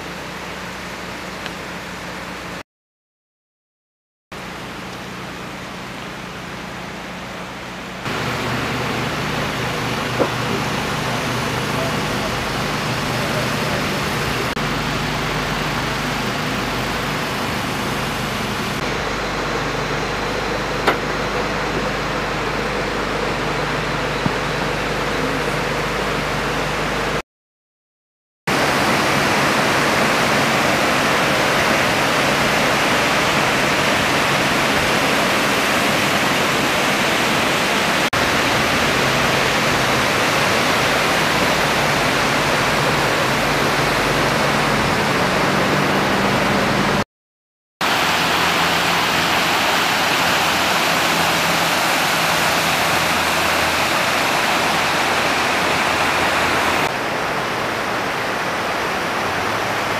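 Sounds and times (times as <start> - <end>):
river water rushing over rocks: 8.0 - 25.6, 28.5 - 47.0, 47.8 - 59.9.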